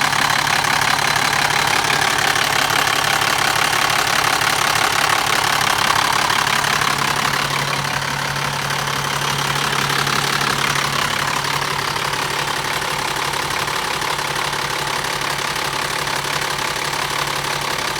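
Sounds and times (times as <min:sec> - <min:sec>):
diesel engine idling with clatter: 0:00.0 - 0:17.9.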